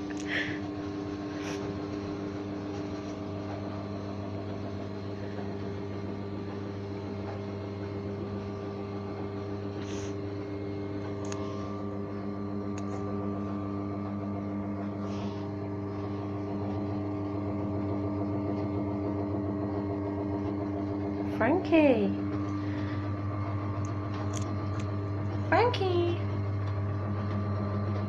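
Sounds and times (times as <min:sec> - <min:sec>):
stairlift motor humming: 0:00.0 - 0:28.0.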